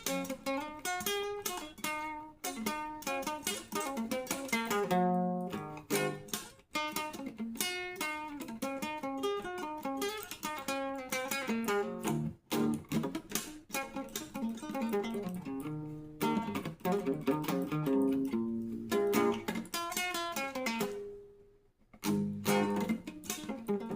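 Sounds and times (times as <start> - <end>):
solo guitar playing: 0.0 - 23.9.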